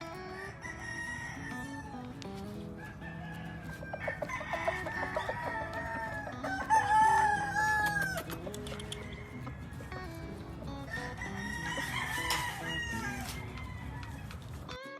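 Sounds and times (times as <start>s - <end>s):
chickens clucking: 0.0s - 14.9s
roosters crowing: 0.0s - 14.9s.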